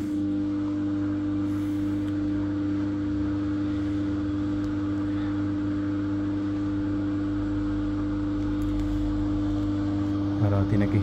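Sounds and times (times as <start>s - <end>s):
washing machine electric hum: 0.0s - 11.0s.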